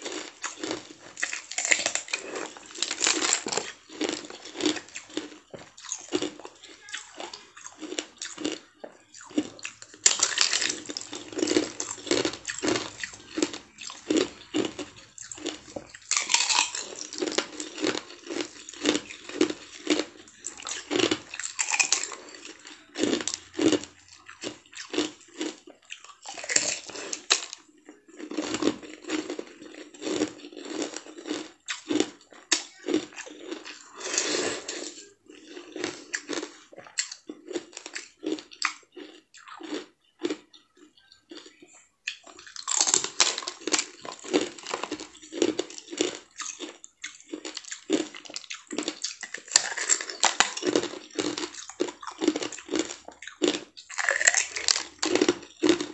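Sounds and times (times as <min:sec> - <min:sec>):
candy crunching: 0:00.0 - 0:55.9.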